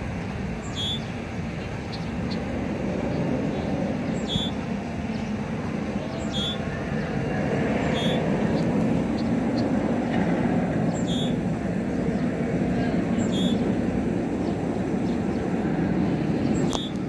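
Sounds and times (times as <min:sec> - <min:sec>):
steam locomotive rumble and hiss: 0:00.0 - 0:17.0.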